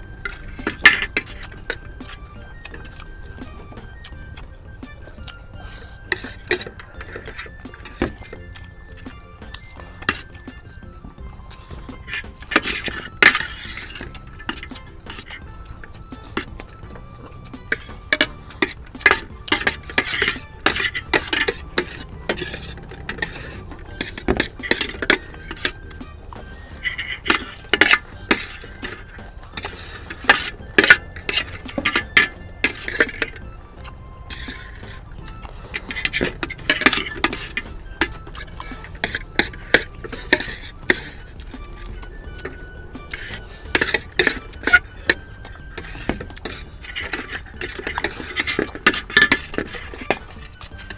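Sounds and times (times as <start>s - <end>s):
background music: 0.0s - 50.9s
utensils clinking against bowls: 0.0s - 50.9s.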